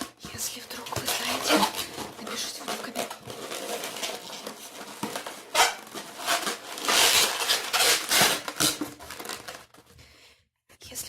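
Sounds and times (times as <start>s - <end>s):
latex balloons rubbing and squeaking: 0.8s - 9.7s.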